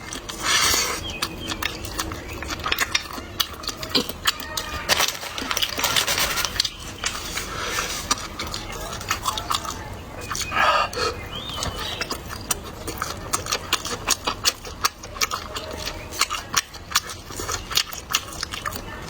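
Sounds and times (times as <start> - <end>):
crunchy chewing: 0.0 - 19.0
utensils clinking on dishes: 0.0 - 19.0.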